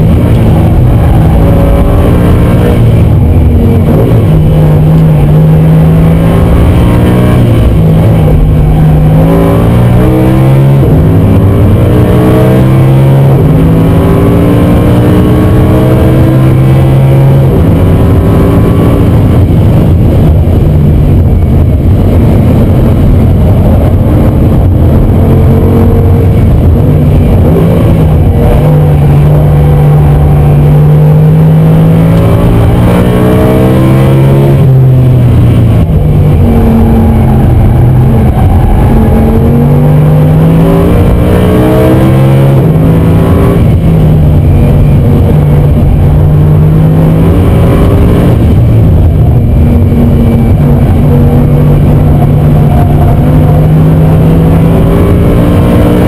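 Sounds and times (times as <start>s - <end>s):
car engine revving: 0.0s - 56.0s
tyre and road noise: 0.0s - 56.0s.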